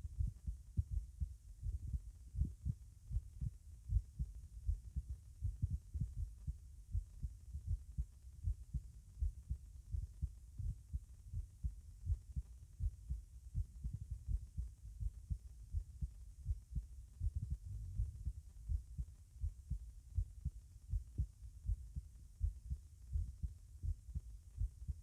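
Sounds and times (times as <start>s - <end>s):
heartbeat thuds: 0.0s - 25.0s.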